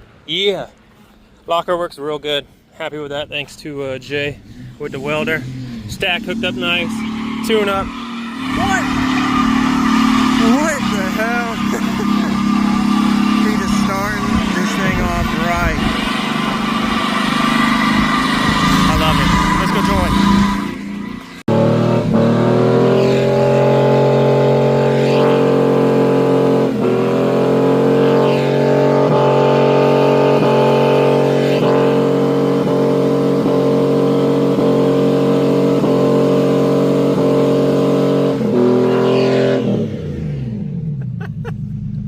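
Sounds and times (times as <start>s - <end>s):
pickup engine at high revs: 4.4s - 42.0s.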